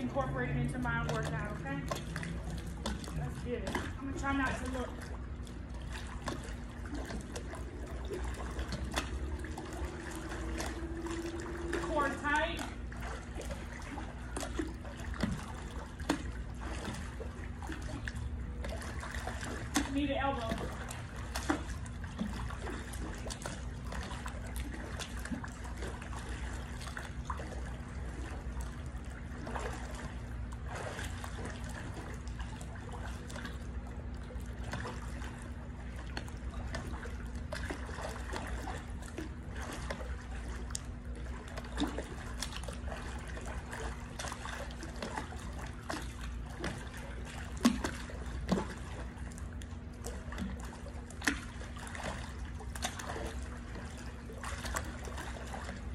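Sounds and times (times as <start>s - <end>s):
low hum: 0.0s - 55.9s
pool water sloshing: 0.0s - 55.9s
water splashes: 0.0s - 55.9s.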